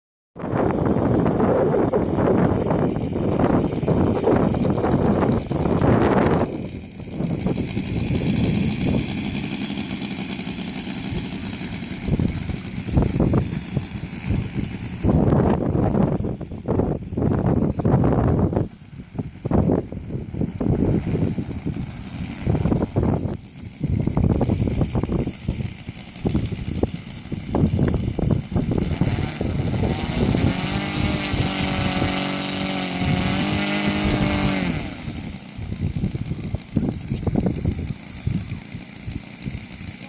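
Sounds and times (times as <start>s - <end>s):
wind buffeting microphone: 0.4s - 9.6s, 11.0s - 39.9s
model plane engine whine: 0.4s - 40.0s.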